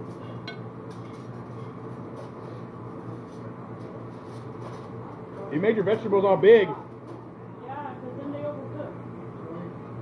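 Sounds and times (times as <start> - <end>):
kitchen equipment humming: 0.0 - 10.0.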